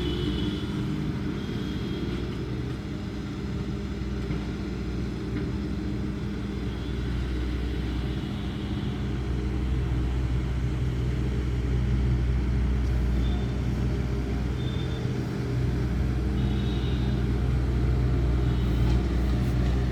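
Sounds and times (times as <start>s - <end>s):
diesel loader engine running: 0.0s - 19.9s.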